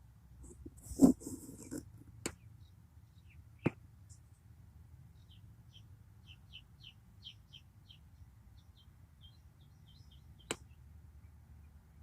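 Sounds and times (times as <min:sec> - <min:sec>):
faint bird chirping: 0:01.0 - 0:04.4, 0:05.1 - 0:12.0.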